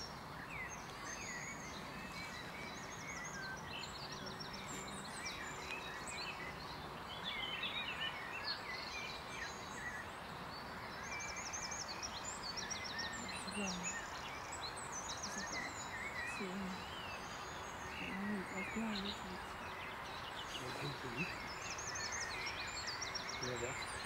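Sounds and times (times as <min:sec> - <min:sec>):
songbirds calling and singing: 0:00.0 - 0:24.0
steady background hiss: 0:00.0 - 0:24.0.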